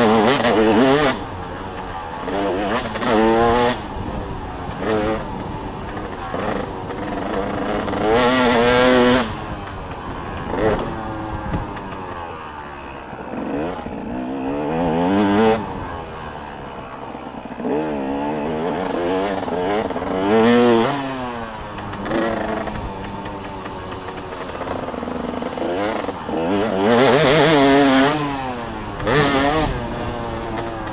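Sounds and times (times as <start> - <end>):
dirt bikes revving: 0.0 - 30.9.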